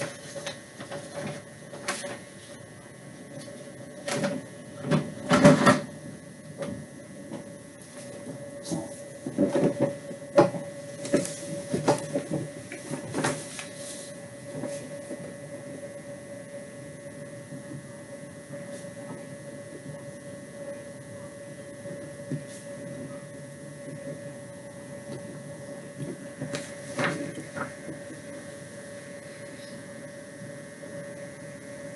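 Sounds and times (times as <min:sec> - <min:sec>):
room hum with steady tone: 0:00.0 - 0:31.9.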